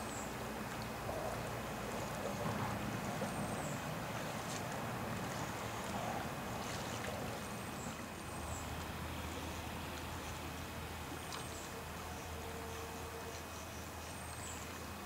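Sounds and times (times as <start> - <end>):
creek running over stones: 0.0 - 15.0
low steady hum: 0.0 - 15.0.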